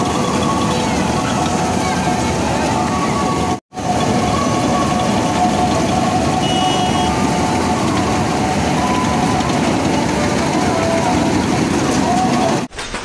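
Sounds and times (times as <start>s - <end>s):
combine harvester engine droning: 0.0s - 12.7s
machinery whine: 0.0s - 12.7s.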